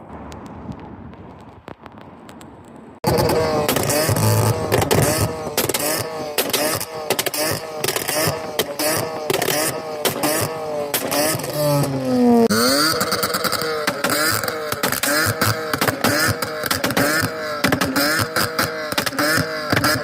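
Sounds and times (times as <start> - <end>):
exhaust cracks and pops: 0.0 - 20.0
car engines revving: 3.0 - 20.0.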